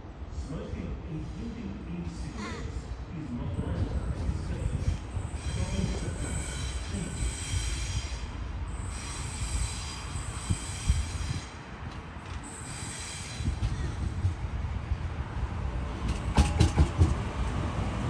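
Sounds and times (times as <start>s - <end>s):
electric train rumble: 0.0s - 18.0s.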